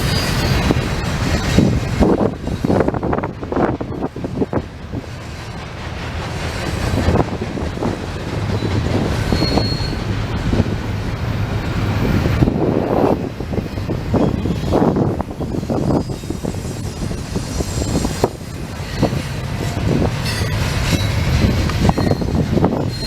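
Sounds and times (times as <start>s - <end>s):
train wheel squeal: 0.0s - 4.5s, 6.4s - 10.7s, 11.8s - 23.0s.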